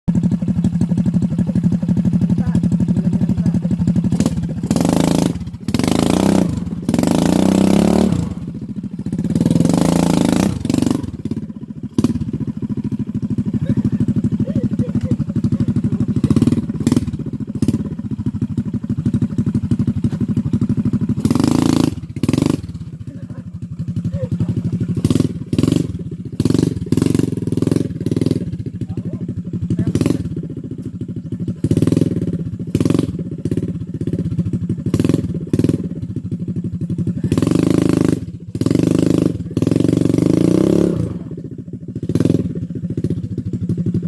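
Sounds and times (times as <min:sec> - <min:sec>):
motorcycle engine revving: 0:00.1 - 0:44.0.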